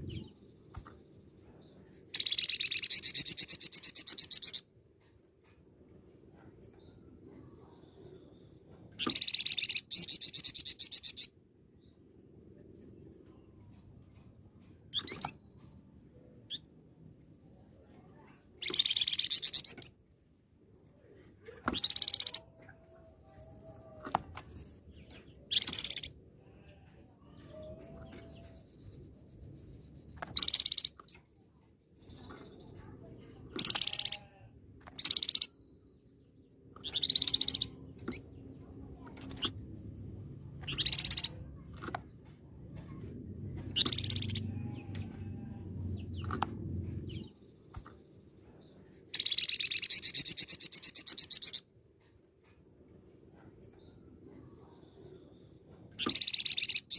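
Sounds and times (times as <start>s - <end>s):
songbird singing: 0.0s - 5.6s, 6.4s - 20.1s, 20.9s - 52.6s, 53.4s - 56.9s.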